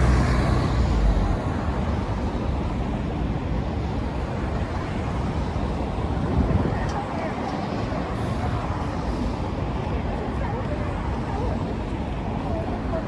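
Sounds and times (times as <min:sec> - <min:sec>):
electric train rumbling: 0:00.0 - 0:13.0
road traffic hum: 0:00.0 - 0:13.0.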